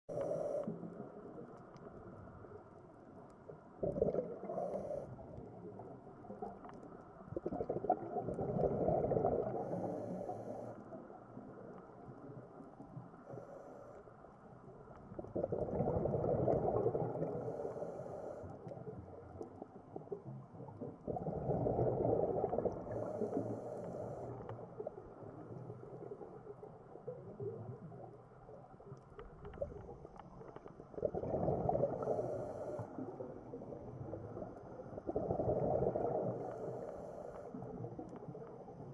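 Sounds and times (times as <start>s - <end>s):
underwater exhaled air bubbling: 3.3s - 14.0s, 14.6s - 38.9s.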